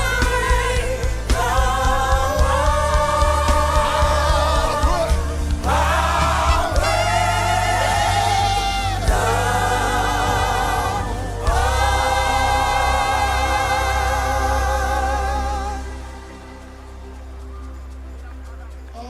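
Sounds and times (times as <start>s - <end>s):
band accompaniment: 0.0s - 19.0s
choir singing long notes: 0.0s - 19.0s.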